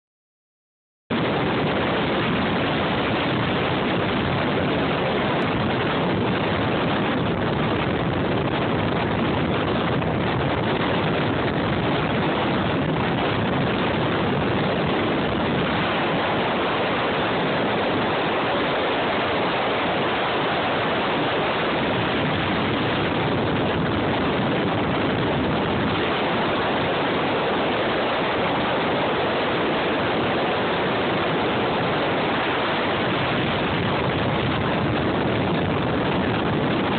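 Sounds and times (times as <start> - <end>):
water rushing against boat hull: 1.1 - 36.9
wind rushing on microphone: 1.1 - 36.9.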